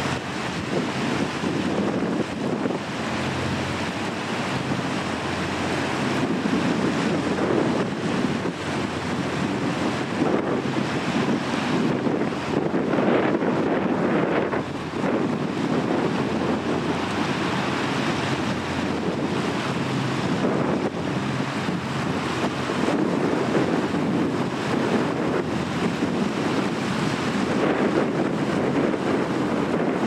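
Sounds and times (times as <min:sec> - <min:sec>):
boat wash through water: 0:00.0 - 0:30.0
wind buffeting microphone: 0:00.0 - 0:30.0.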